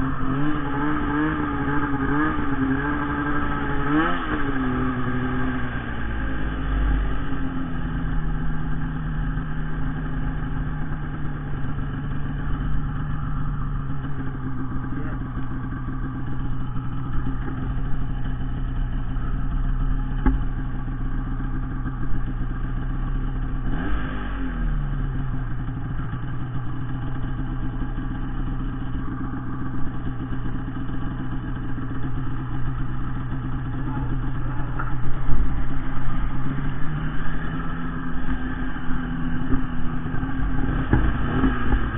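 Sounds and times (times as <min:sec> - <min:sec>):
snowmobile engine under throttle: 0:00.0 - 0:41.9.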